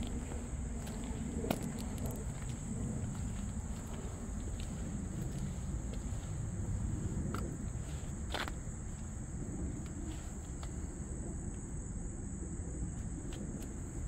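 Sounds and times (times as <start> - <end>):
insects chirring: 0.0 - 14.0
low outdoor rumble: 0.0 - 14.0.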